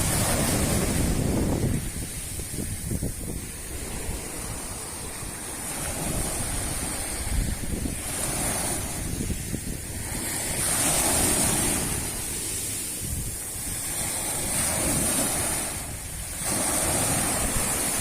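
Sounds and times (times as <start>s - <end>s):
sea surf washing on shore: 0.0s - 18.0s
wind buffeting microphone: 0.0s - 18.0s.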